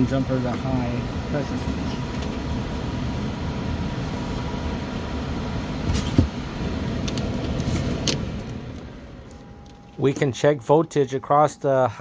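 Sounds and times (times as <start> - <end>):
furnace motor humming: 0.0 - 12.0.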